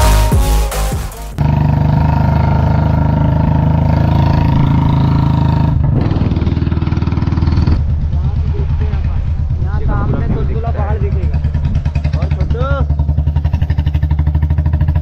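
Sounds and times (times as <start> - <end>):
vehicle engine running at low speed: 1.4 - 15.0.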